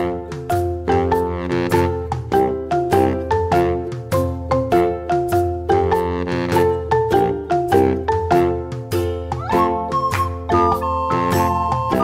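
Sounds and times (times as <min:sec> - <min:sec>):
cheerful children's music: 0:00.0 - 0:12.0.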